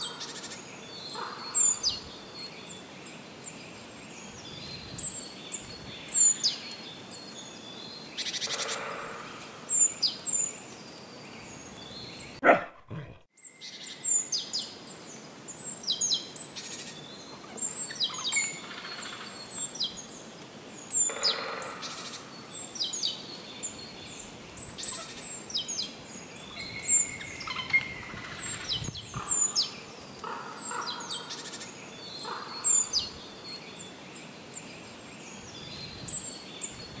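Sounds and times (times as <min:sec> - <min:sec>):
birds chirping: 0:00.0 - 0:37.0
steady outdoor hiss: 0:00.0 - 0:37.0.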